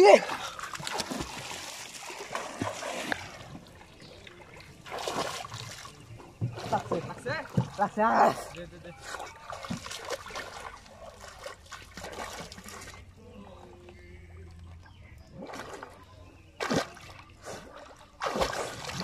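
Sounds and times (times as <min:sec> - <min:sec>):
water splashes: 0:00.0 - 0:14.3, 0:15.1 - 0:19.0
water sloshing and trickling: 0:00.0 - 0:19.0.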